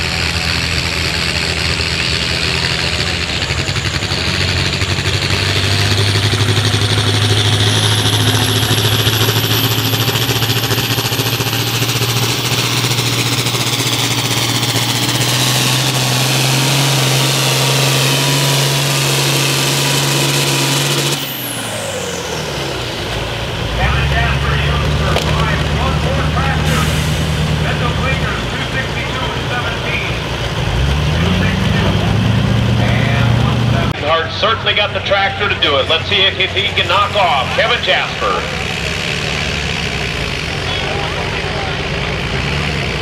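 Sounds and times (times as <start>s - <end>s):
tractor diesel engine under load: 0.0s - 43.0s.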